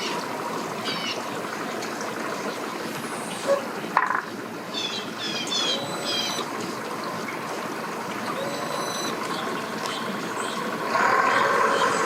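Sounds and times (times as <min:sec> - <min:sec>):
distant motors: 0:00.0 - 0:12.0
water: 0:00.0 - 0:12.0.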